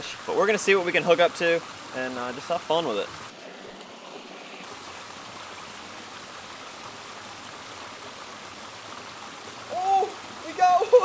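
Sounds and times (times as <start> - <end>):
small waterfall rushing: 0.0 - 11.0.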